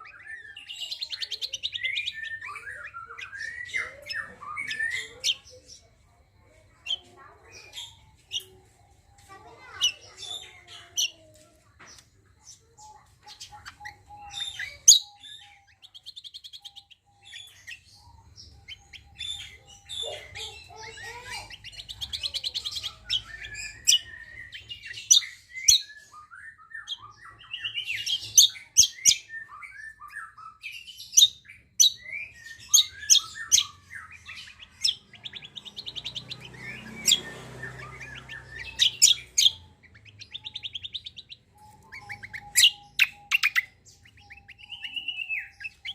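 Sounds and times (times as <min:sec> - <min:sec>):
birds chirping and trilling: 0:00.0 - 0:45.9.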